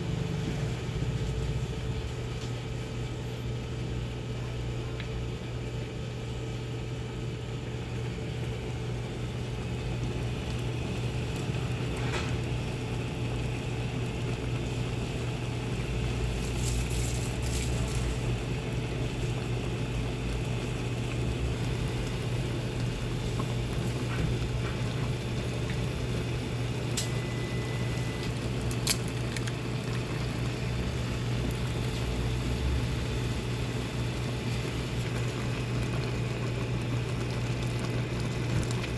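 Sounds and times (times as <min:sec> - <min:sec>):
broth boiling: 0:00.0 - 0:38.9
low electrical hum: 0:00.0 - 0:38.9.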